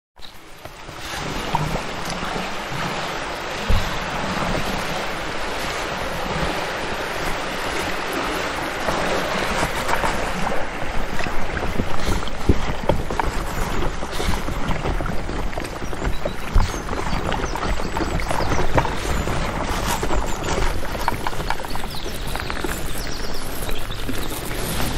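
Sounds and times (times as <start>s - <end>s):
river water rushing: 0.2s - 24.9s
wind buffeting microphone: 0.8s - 24.9s.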